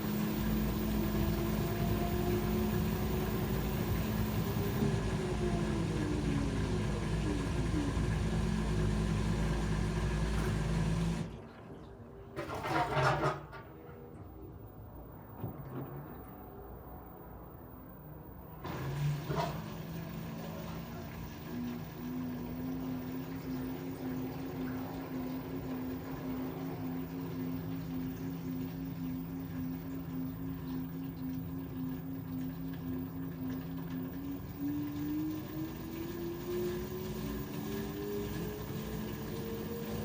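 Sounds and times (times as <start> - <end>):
washer-dryer spinning: 0.0 - 16.4, 18.4 - 40.0.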